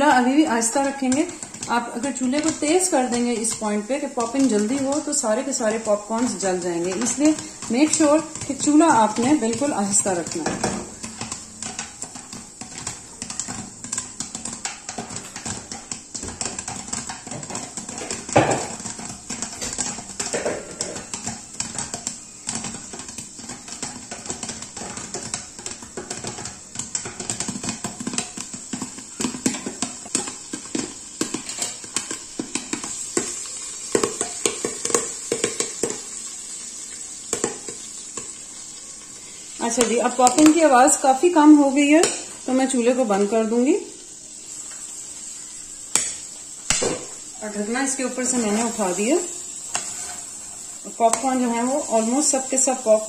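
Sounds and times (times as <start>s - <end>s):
butter sizzling: 0.0s - 53.0s
popcorn popping: 0.0s - 53.0s.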